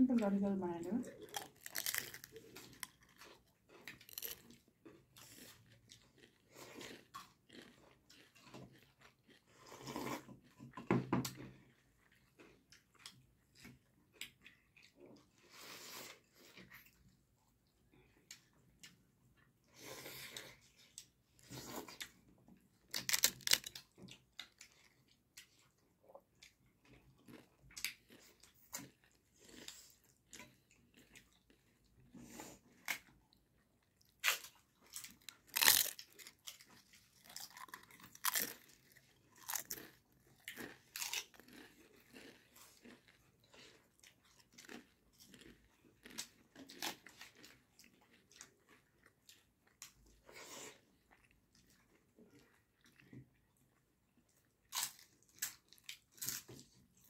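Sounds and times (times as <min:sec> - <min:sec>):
crunching of crispy food: 0:01.1 - 0:17.1, 0:19.7 - 0:25.8, 0:26.4 - 0:57.0
wet chewing: 0:01.1 - 0:57.0.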